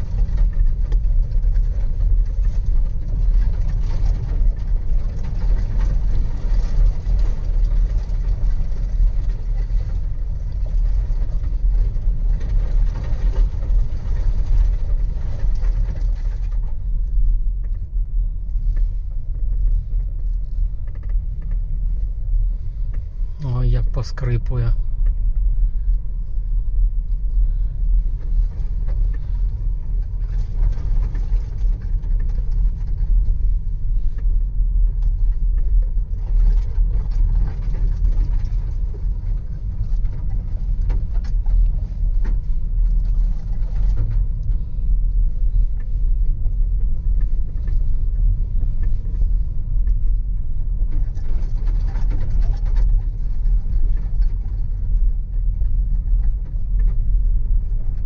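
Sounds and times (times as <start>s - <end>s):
tyre and suspension rumble: 0.0s - 58.0s.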